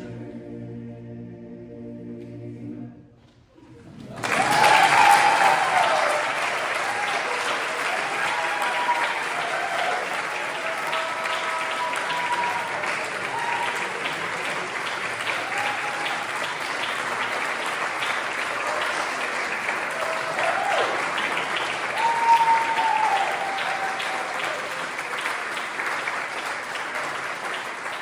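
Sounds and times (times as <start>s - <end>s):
people cheering: 3.7s - 28.0s
audience applauding: 3.8s - 28.0s.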